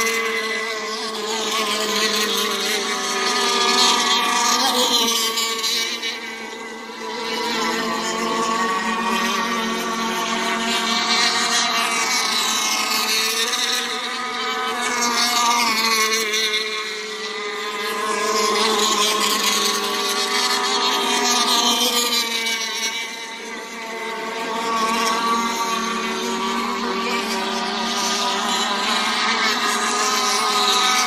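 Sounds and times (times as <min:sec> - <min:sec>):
racing boat engines whining: 0:00.0 - 0:31.0.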